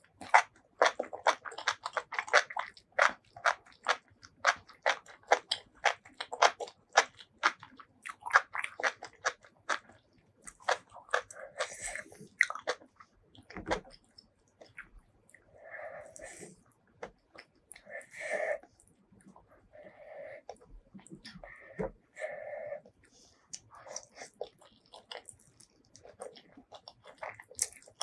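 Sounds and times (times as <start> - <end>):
crisp wet chewing: 0.0 - 28.0.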